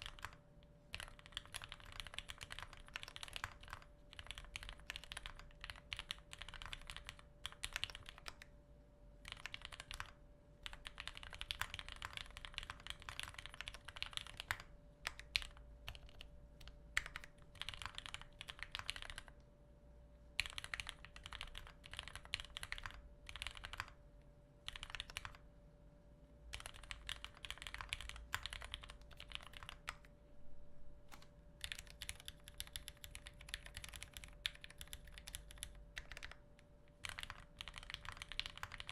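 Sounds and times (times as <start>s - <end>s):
mechanical keyboard typing: 0.0s - 8.5s, 9.2s - 19.4s, 20.4s - 24.0s, 24.6s - 25.4s, 26.5s - 30.1s, 31.1s - 36.4s, 37.0s - 38.9s.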